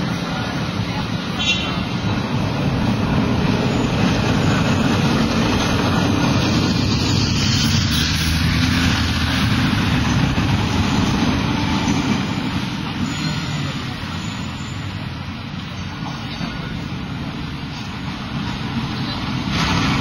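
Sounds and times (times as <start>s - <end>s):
traffic rumbling: 0.0s - 20.0s.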